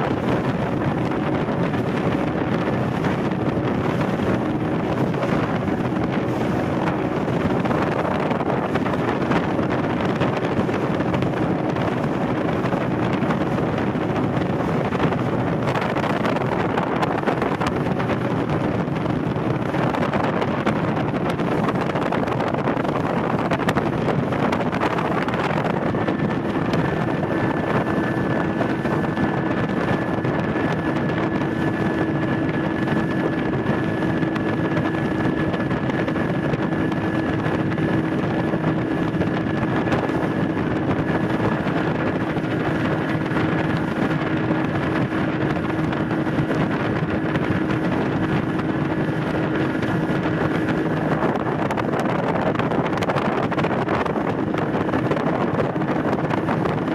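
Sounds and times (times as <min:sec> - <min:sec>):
outboard motor running: 0:00.0 - 0:56.9
water rushing along hull: 0:00.0 - 0:56.9
wind buffeting microphone: 0:00.0 - 0:56.9.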